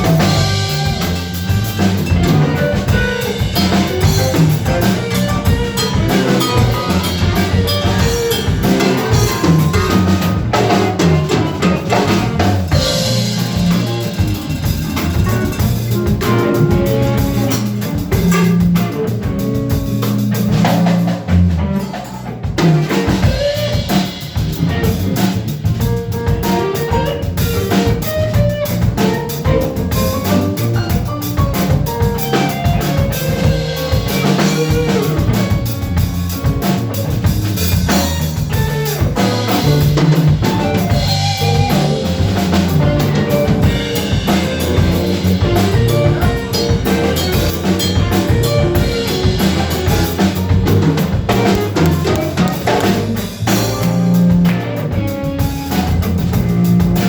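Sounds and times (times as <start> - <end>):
bass line: 0.0 - 57.0
live funk band playing: 0.0 - 57.0
snare and bass drum: 0.0 - 57.0.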